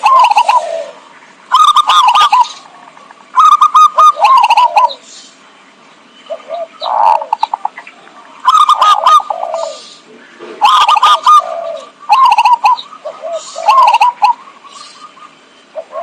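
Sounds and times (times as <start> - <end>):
dove cooing: 0.0 - 5.1, 6.3 - 16.0.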